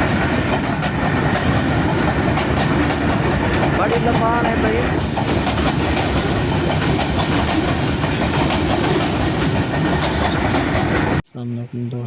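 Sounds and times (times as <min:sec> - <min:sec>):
train wheels clattering on rails: 0:00.0 - 0:11.2.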